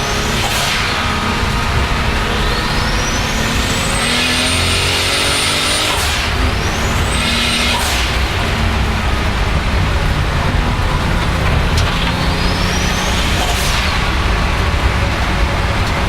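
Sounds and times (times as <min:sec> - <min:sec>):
car engine under power: 0:00.0 - 0:16.0.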